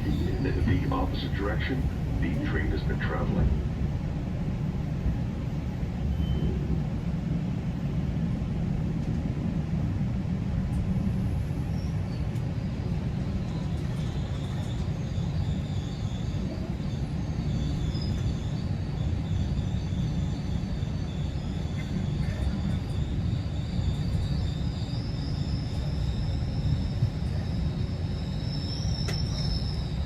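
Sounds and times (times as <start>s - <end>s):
train rumble inside coach: 0.0s - 30.0s.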